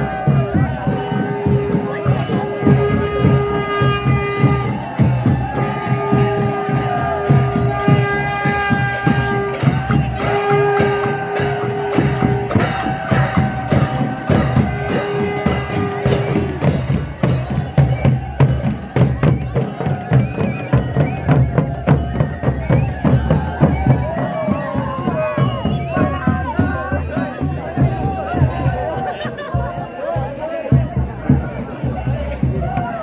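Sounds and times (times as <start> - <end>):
fast percussion beat: 0.0 - 33.0.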